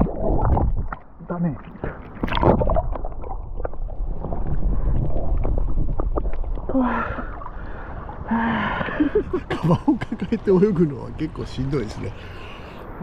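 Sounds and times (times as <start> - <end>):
underwater rumble of moving water: 0.0 - 12.1.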